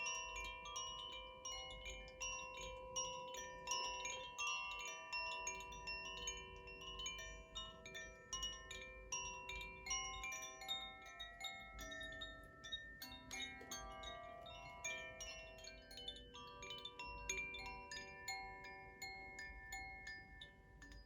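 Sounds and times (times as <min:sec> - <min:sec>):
wind chime ringing: 0:00.0 - 0:21.0.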